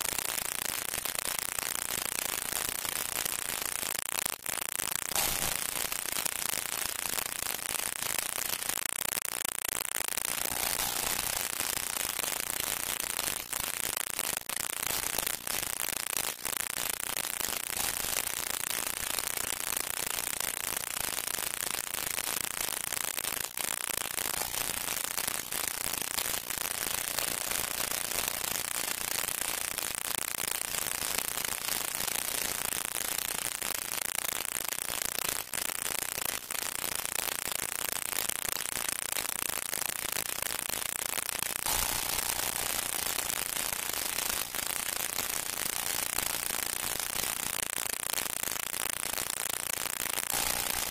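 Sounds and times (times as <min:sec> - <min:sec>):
old film soundtrack hiss and crackle: 0:00.0 - 0:50.9.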